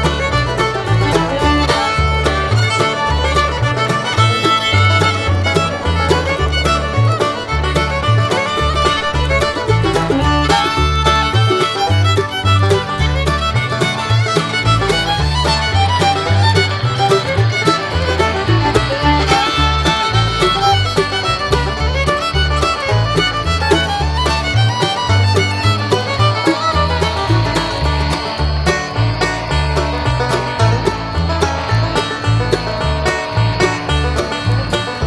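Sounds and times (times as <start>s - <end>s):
fiddle: 0.0s - 35.0s
steady bass beat: 0.0s - 35.0s
upbeat bluegrass music: 0.0s - 35.0s.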